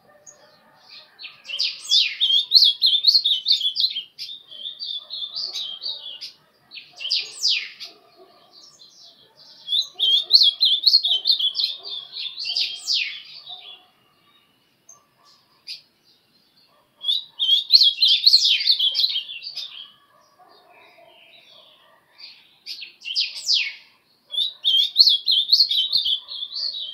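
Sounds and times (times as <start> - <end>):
bird singing warbled phrases: 0.0 - 26.9.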